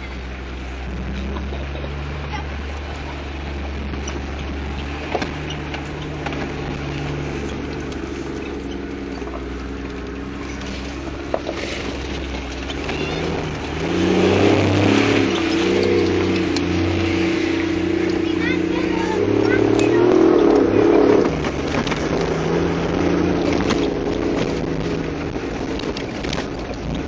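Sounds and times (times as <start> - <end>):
road noise on dirt track: 0.0 - 27.0
vehicle engine running: 0.0 - 27.0.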